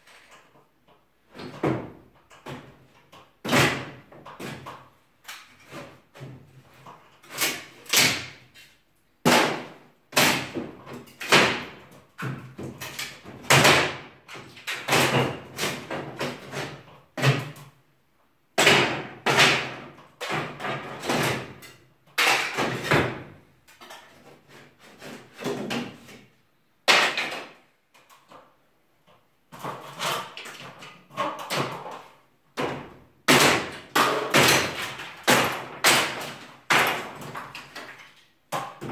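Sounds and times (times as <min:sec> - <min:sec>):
wooden boards banging and cracking: 0:01.2 - 0:08.6, 0:09.2 - 0:17.8, 0:18.6 - 0:26.2, 0:26.8 - 0:28.5, 0:29.5 - 0:38.9.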